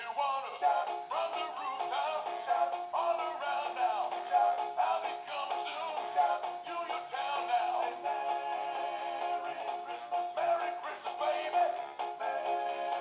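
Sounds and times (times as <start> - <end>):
toy electronic singing voice: 0.1 - 13.0.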